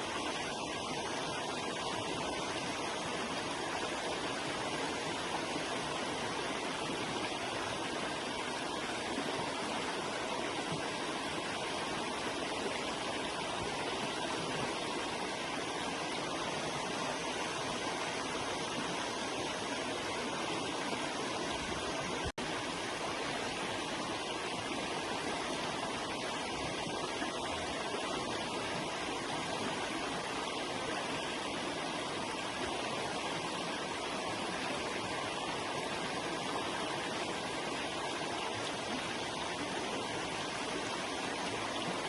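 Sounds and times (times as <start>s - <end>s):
river water flowing: 0.0s - 42.0s.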